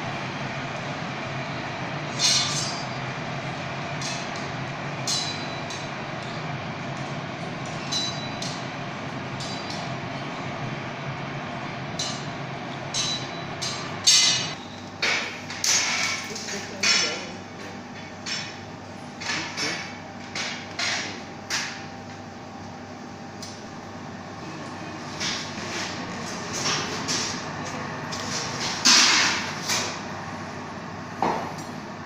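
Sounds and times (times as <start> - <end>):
furnace roaring: 0.0 - 32.0.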